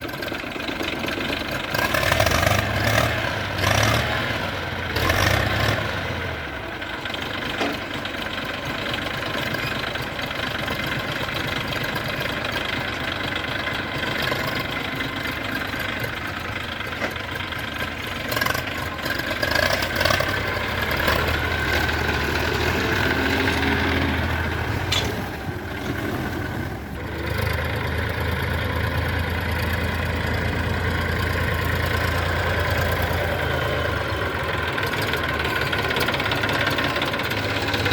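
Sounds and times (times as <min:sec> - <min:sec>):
diesel engines running: 0:00.0 - 0:37.9.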